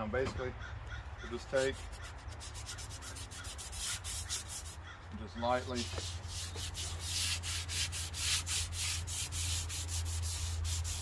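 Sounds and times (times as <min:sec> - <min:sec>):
sandpaper rubbing on wood: 0:01.4 - 0:04.8, 0:05.6 - 0:11.0.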